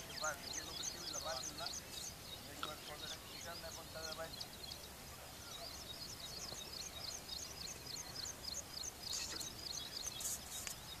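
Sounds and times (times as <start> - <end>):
bird chirping rapidly: 0.0 - 11.0
faint outdoor background noise: 0.0 - 11.0.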